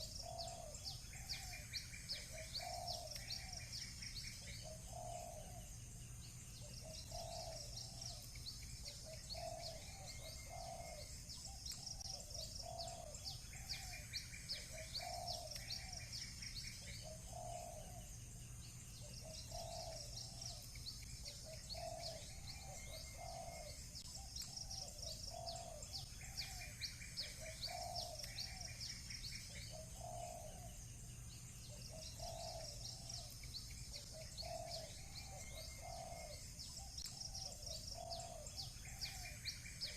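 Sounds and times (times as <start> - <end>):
dove cooing: 0.0 - 5.7, 6.6 - 18.1, 19.0 - 30.8, 31.7 - 39.9
buzzy bird trills: 0.0 - 39.9
small birds chirping: 0.0 - 39.9.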